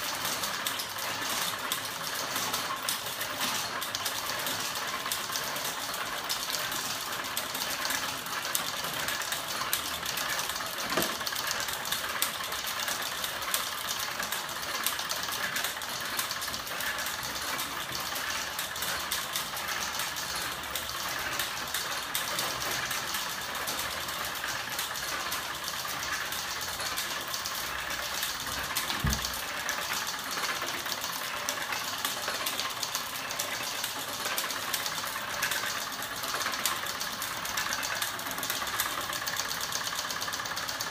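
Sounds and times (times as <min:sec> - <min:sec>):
motorized flapping machine whirring: 0:00.0 - 0:40.9.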